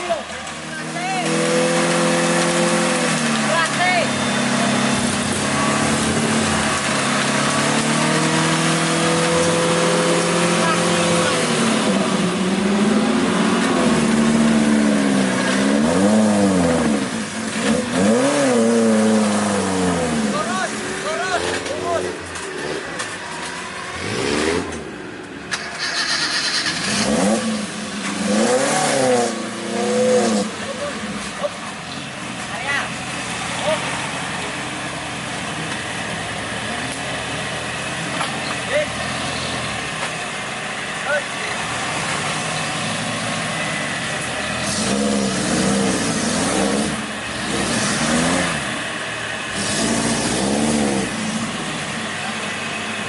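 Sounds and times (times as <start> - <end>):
jeep engine running: 0.0 - 53.0.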